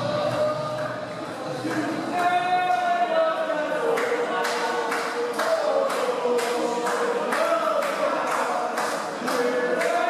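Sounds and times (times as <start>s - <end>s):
crowd chanting: 0.0s - 10.0s
crowd clapping in time: 0.2s - 2.9s, 3.9s - 10.0s.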